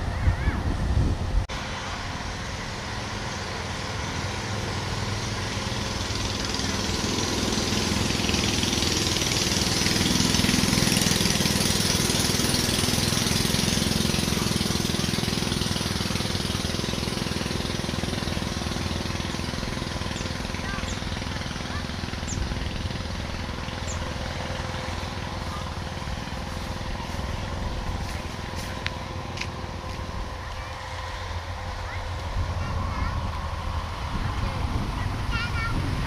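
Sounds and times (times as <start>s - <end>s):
combine harvester diesel drone: 0.0s - 36.0s.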